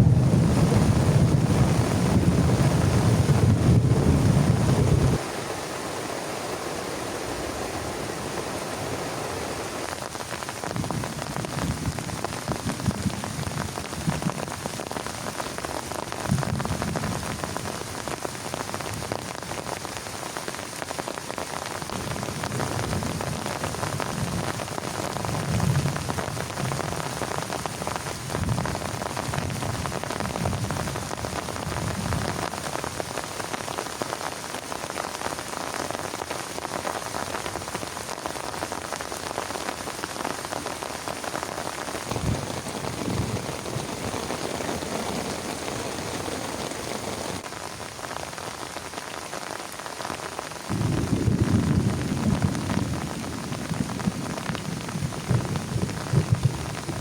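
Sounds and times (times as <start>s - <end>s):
heavy rain on plastic tarp: 0.0s - 57.0s.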